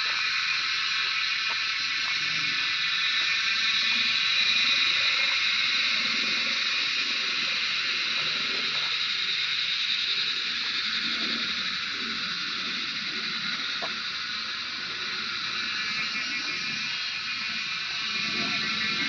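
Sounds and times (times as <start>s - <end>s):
forest insects chorus: 0.0s - 19.0s.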